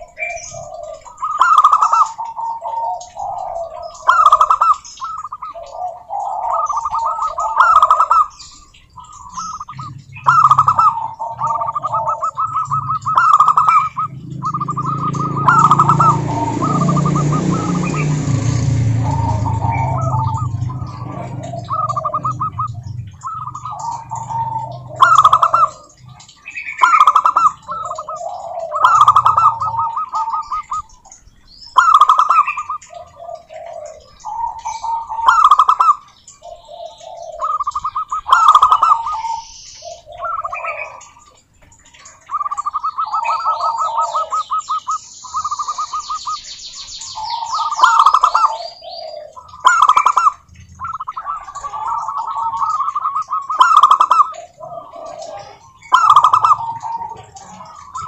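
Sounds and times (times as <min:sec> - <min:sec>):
doves rapid cooing: 0:00.0 - 0:58.0
small birds chirping: 0:00.0 - 0:58.0.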